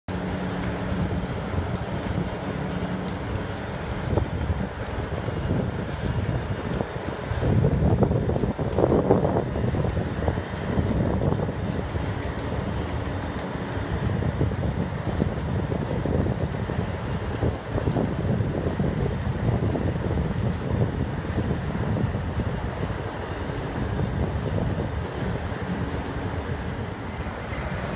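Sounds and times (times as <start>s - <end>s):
heavy mechanical rumble: 0.1s - 27.9s.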